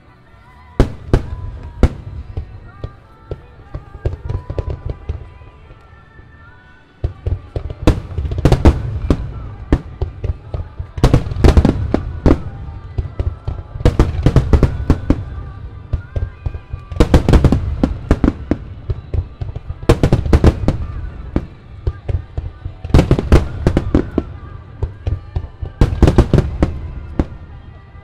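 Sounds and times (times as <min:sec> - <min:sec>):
fireworks launching and bursting: 0:00.8 - 0:05.9, 0:07.0 - 0:28.0.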